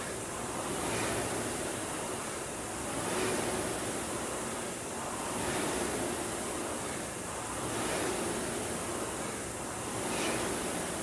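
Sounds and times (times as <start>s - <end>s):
rowing machine flywheel whooshing: 0.0s - 11.0s.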